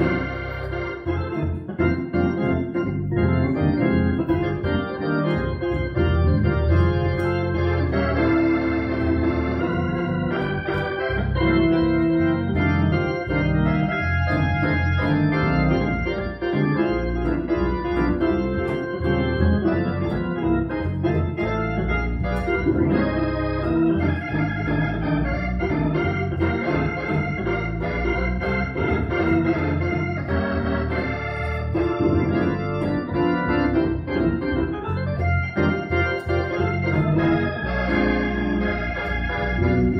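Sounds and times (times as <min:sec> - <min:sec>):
organ chords: 0:00.0 - 0:39.9.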